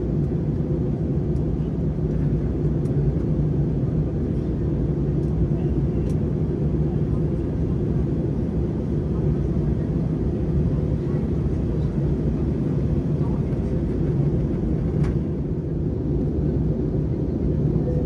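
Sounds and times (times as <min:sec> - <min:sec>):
low jet engine drone: 0:00.0 - 0:18.0.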